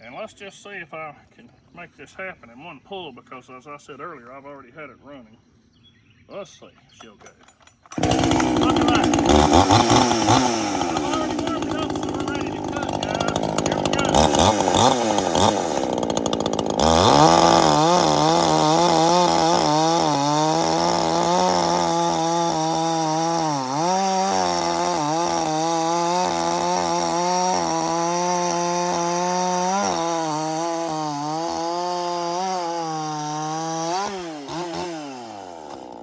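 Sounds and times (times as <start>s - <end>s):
chainsaw cutting wood: 7.0s - 36.0s.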